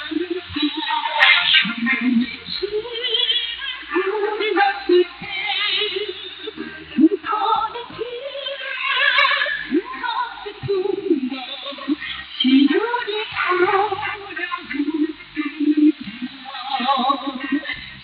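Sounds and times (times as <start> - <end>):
female chorus singing over radio: 0.0 - 18.0.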